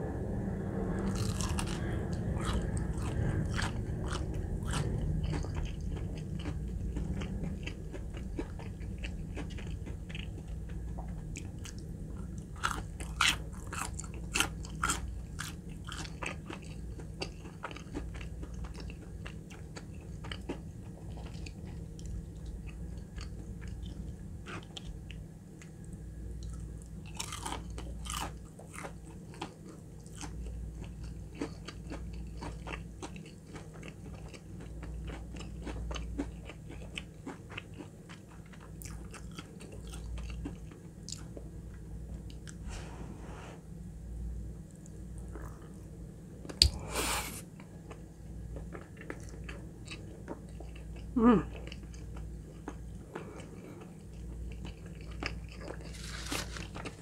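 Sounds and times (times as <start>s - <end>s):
crunchy chewing: 0.9s - 41.5s, 47.8s - 57.0s.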